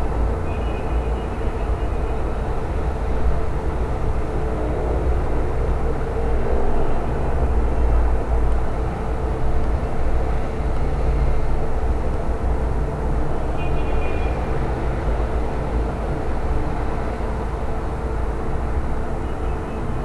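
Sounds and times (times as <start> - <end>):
low rumbling background noise: 0.0 - 20.0.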